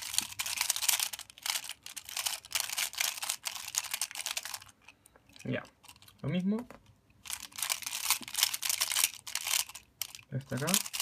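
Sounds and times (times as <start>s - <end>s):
plastic puzzle clicking and clacking: 0.0s - 11.0s.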